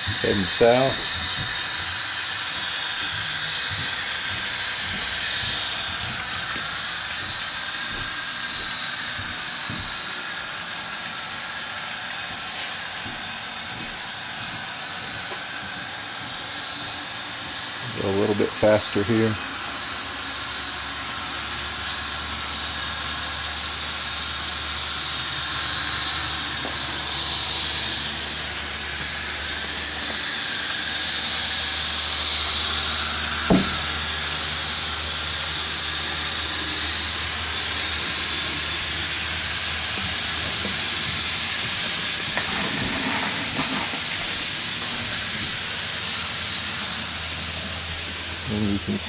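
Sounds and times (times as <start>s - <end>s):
model train running with whine: 0.0s - 49.0s.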